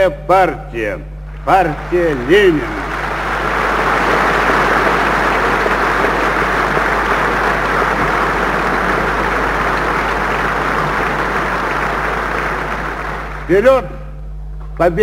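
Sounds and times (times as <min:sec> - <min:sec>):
low steady hum: 0:00.0 - 0:15.0
large audience applauding: 0:01.3 - 0:13.7.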